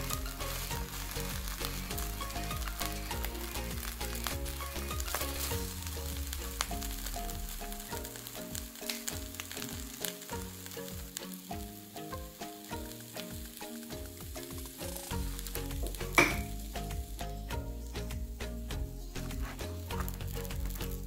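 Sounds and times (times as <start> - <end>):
gentle melody: 0.0 - 21.0
tortillas sizzling in oil: 0.0 - 21.0.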